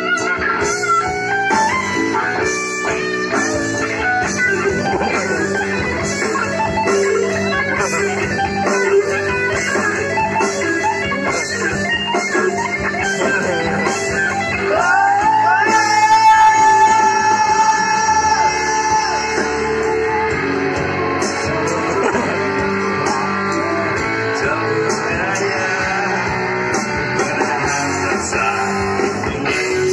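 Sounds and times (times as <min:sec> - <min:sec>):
electric guitar solo: 0:00.0 - 0:29.9
pop band backing: 0:00.0 - 0:29.9.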